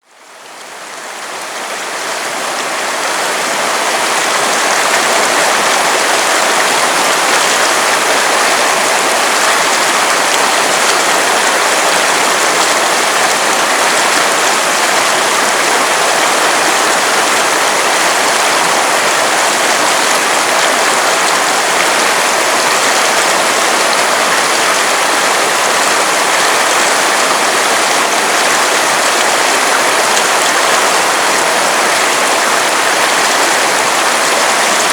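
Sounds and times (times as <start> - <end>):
river water running: 0.0 - 34.9.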